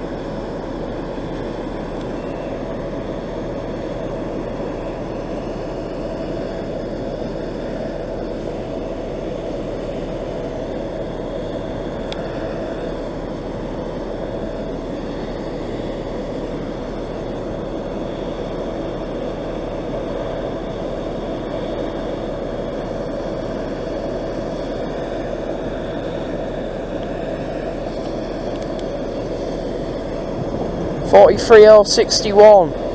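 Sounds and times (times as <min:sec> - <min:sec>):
diesel train engine droning: 0:00.0 - 0:32.9.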